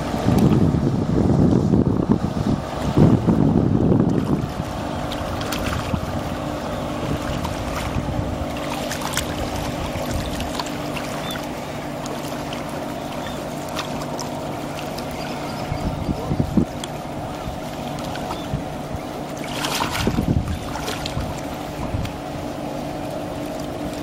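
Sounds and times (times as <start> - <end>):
wind rumbling on microphone: 0.0 - 23.1
outboard engine humming: 0.0 - 24.0
water rushing: 0.0 - 24.0.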